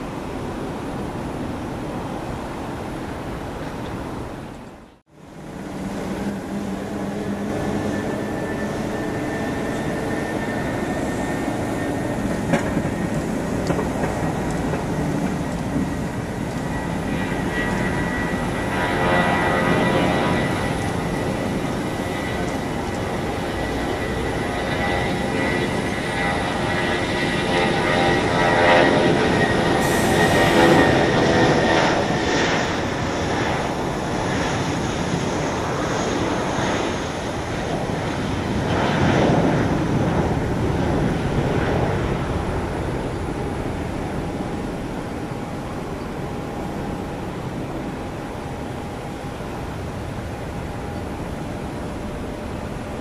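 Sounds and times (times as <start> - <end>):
jet engines at takeoff thrust: 0.0 - 53.0.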